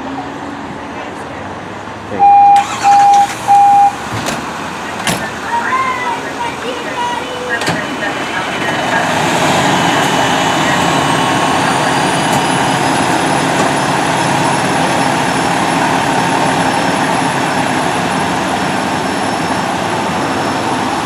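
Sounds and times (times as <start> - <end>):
fire engine engines rumbling: 0.0 - 21.0.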